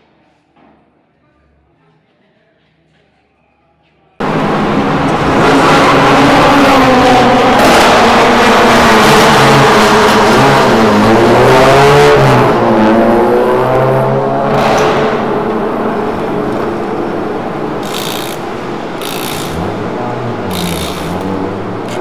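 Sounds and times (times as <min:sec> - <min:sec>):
race car loud exhaust: 0:04.2 - 0:22.0.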